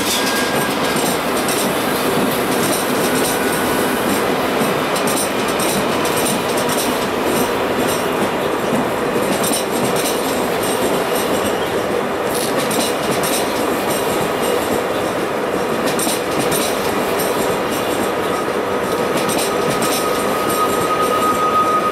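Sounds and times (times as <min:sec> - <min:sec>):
wheels clicking over rail joints: 0:00.0 - 0:11.6, 0:12.3 - 0:14.8, 0:15.8 - 0:20.6
train rolling along track: 0:00.0 - 0:21.9.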